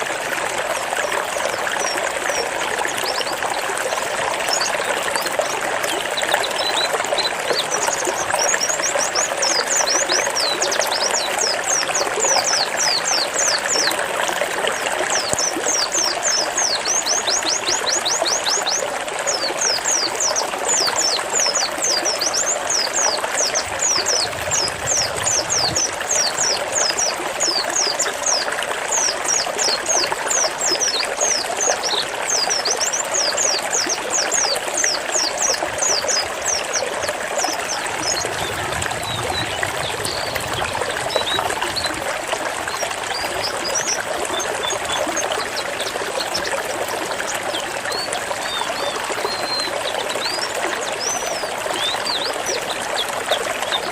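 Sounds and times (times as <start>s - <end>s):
running water trickling: 0.0s - 53.9s.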